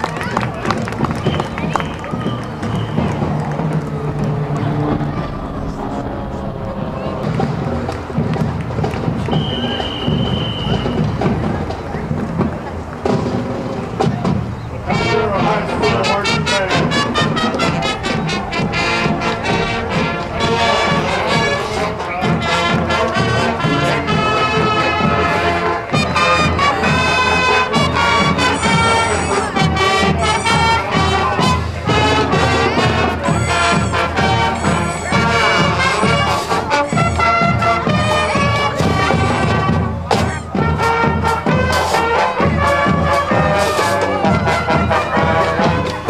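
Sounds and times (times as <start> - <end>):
marching band brass: 0.0 - 46.0
snare and bass drums: 0.6 - 5.0, 7.2 - 46.0.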